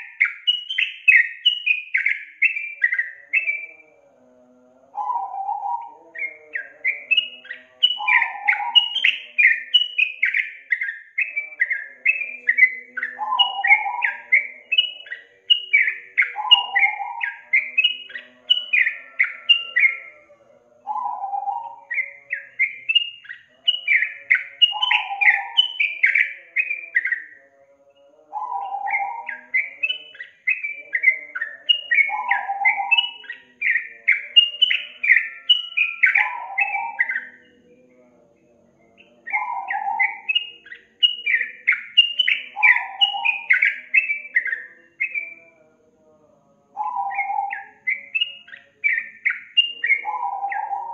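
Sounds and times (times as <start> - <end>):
bulbul singing: 0.0 - 50.9.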